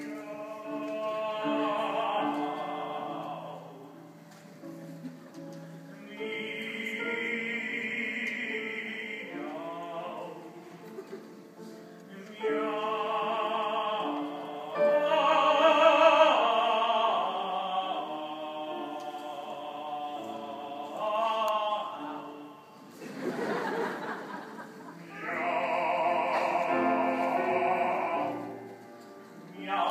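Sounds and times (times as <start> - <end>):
man singing opera: 0.0 - 4.2, 5.8 - 11.3, 12.0 - 22.9, 24.9 - 29.9
piano accompaniment: 0.0 - 29.9.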